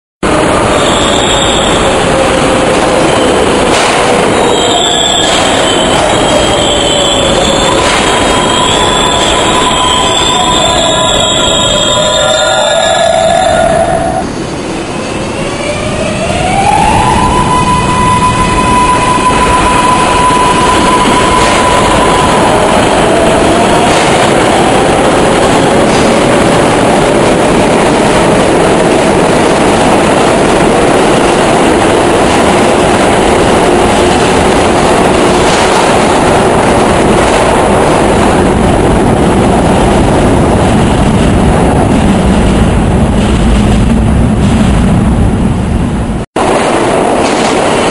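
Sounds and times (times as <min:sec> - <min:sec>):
subway train propulsion tone: 0:00.2 - 0:47.9
wheels rumbling on rail: 0:00.2 - 0:47.9.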